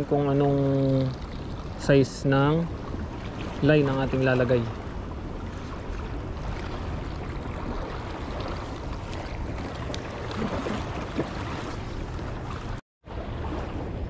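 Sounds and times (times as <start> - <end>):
water lapping: 0.0 - 14.0
wind on microphone: 0.0 - 14.0.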